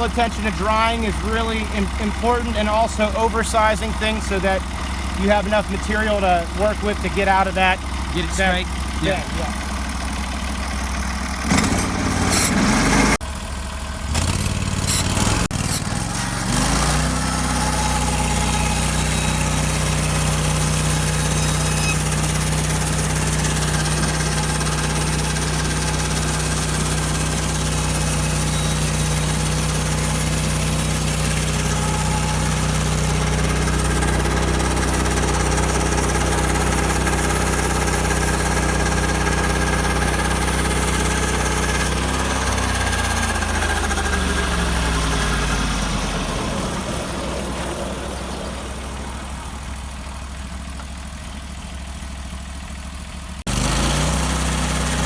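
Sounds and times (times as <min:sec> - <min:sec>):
sawmill engine revving: 0:00.0 - 0:51.6, 0:53.4 - 0:55.0.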